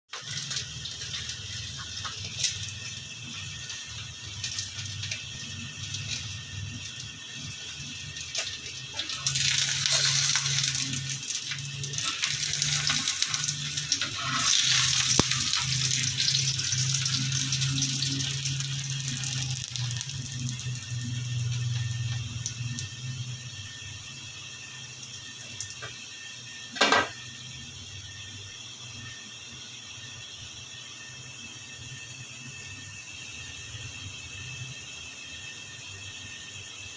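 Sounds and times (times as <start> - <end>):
flatbread sizzling in hot oil: 0.1 - 36.9.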